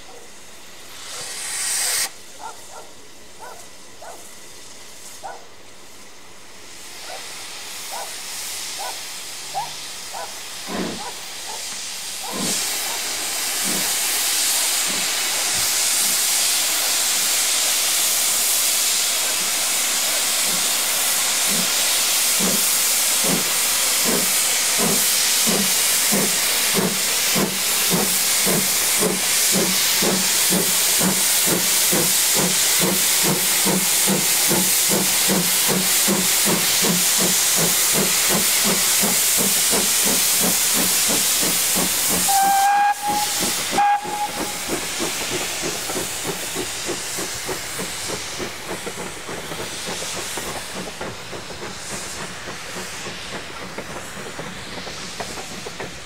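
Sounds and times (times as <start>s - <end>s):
hiss of escaping steam: 0.0s - 56.0s
steam locomotive exhaust chuffs: 0.0s - 56.0s.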